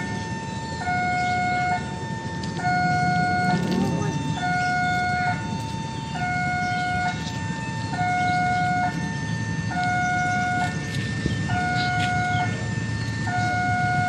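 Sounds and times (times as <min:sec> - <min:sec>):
two-tone level crossing alarm: 0:00.0 - 0:14.0.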